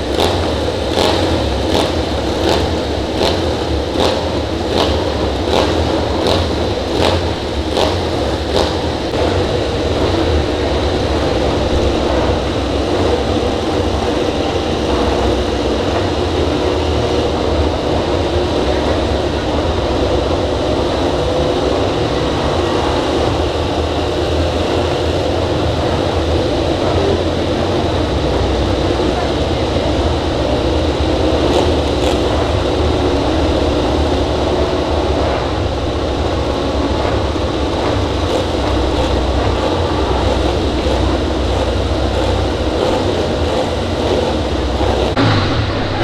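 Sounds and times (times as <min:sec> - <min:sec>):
racing motorcycle engines droning: 0:00.0 - 0:46.0.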